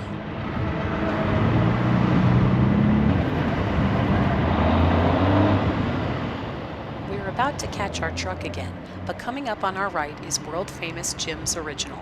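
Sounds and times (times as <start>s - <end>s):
road and wind noise: 0.0s - 12.0s
vehicle engines humming: 0.0s - 12.0s.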